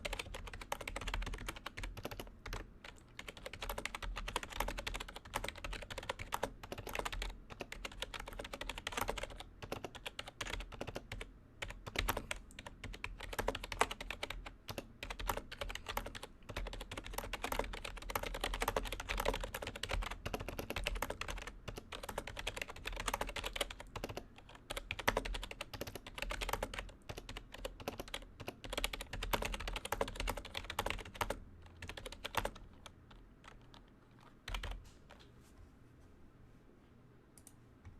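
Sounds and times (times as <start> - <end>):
fast keyboard typing: 0.0 - 35.2.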